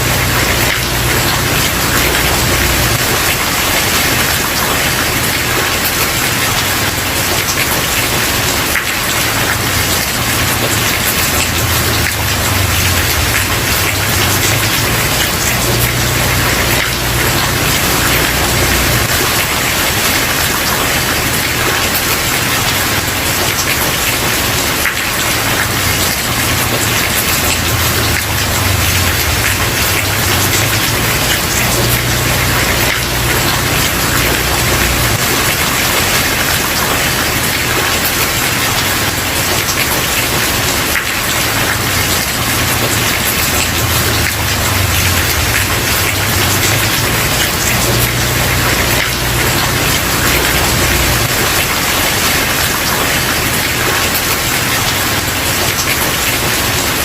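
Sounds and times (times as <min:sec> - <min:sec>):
heavy rain on wooden porch: 0:00.0 - 0:57.0.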